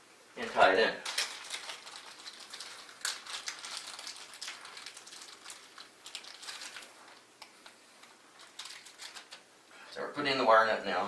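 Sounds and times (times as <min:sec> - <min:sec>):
wires clicking and rustling: 0:00.4 - 0:09.6.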